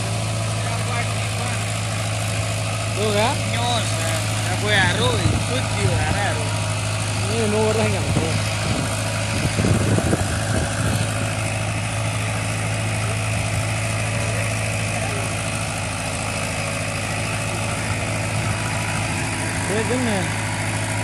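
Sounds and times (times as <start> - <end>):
engine knocking: 0.0 - 21.0
tractor diesel engine running: 0.0 - 21.0.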